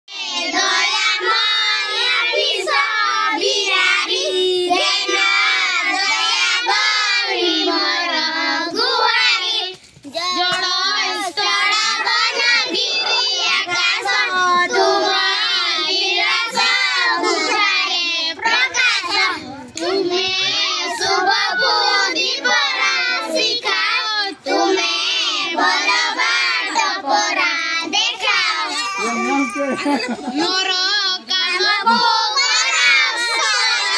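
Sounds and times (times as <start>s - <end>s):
children singing a prayer: 0.1s - 33.9s.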